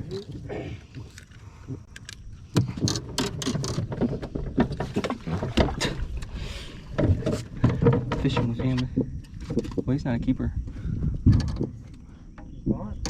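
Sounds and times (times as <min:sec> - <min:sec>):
knocks and clatter on boat: 0:02.5 - 0:13.0.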